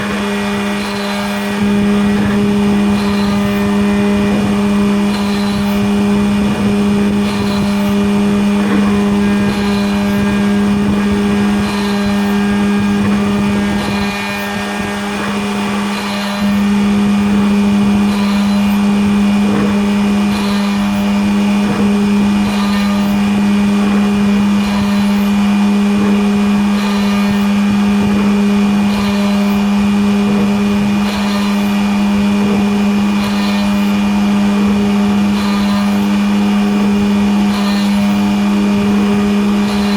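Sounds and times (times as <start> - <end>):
machine motor hum: 0.0 - 39.9.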